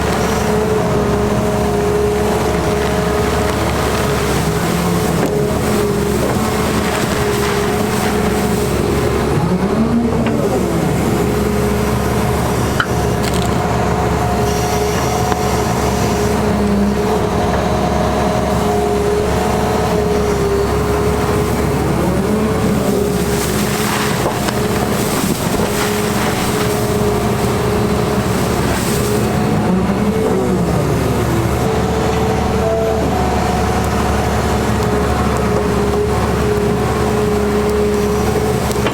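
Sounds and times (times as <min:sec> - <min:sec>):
excavator diesel engine running: 0:00.0 - 0:38.9
hydraulic whine: 0:00.0 - 0:38.9.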